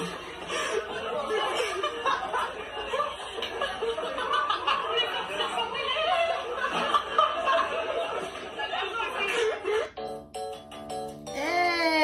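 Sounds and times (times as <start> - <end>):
people snickering and chuckling: 0.0 - 10.0.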